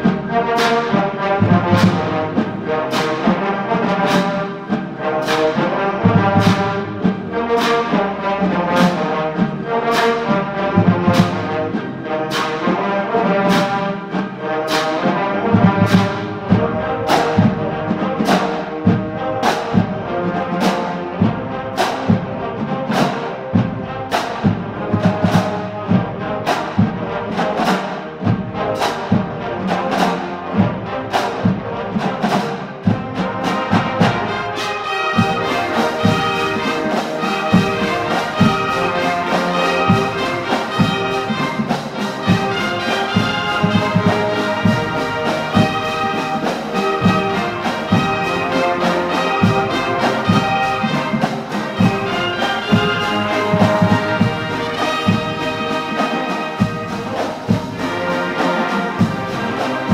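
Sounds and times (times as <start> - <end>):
drum and cymbal hits: 0.0 - 59.9
marching band brass chords: 0.0 - 59.9.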